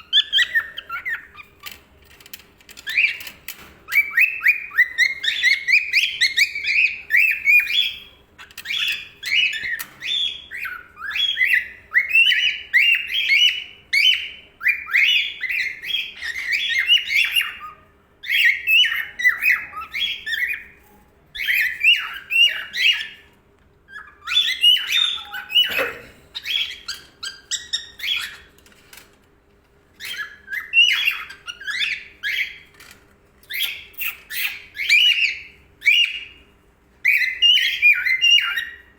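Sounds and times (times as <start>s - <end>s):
cockatiel chirping and squawking: 0.0s - 23.3s, 23.9s - 29.1s, 30.0s - 38.9s.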